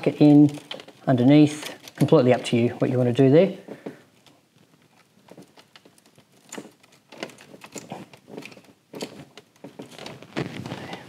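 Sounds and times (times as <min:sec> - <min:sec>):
plastic clicks and rustles: 0:00.0 - 0:03.0, 0:03.6 - 0:11.0.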